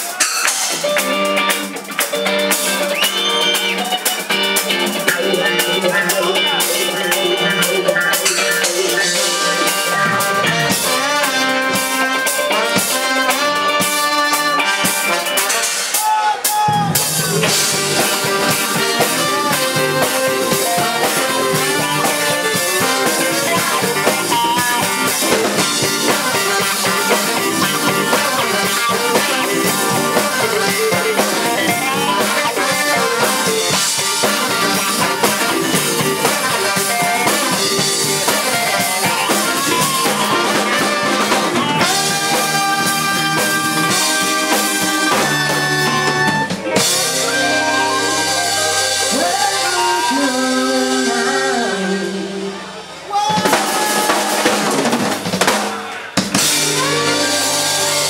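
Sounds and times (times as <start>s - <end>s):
electric guitar: 0.0s - 16.0s, 16.8s - 58.0s
drum kit: 0.0s - 58.0s
rock band playing: 0.0s - 58.0s.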